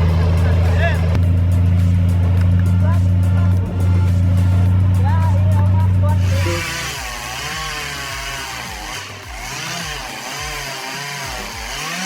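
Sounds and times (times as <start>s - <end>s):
chainsaw running: 0.0s - 12.0s.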